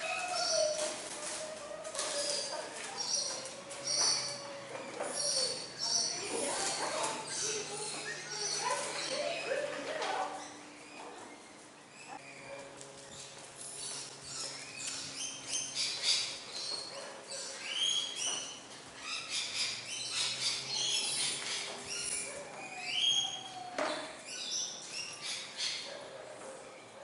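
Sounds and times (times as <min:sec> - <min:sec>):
birds chirping: 0:02.1 - 0:26.0.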